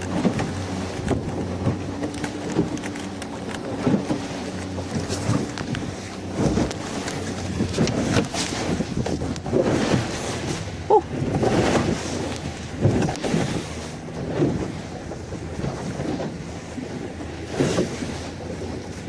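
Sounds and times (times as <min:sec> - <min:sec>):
boat engine hum: 0:00.0 - 0:19.0
waves splashing against hull: 0:00.0 - 0:19.0
wind buffeting microphone: 0:00.0 - 0:19.0.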